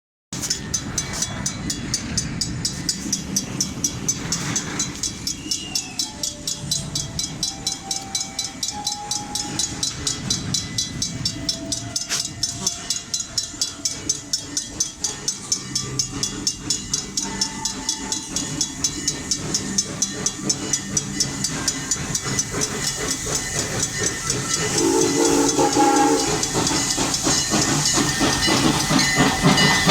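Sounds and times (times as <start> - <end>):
railroad crossing bell ringing: 0.4 - 29.9
train rumble: 0.4 - 29.9.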